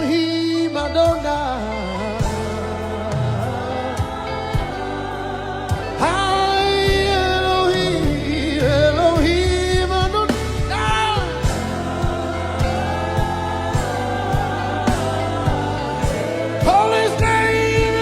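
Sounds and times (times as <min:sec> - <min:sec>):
bass: 0:00.0 - 0:18.0
keyboard chords: 0:00.0 - 0:18.0.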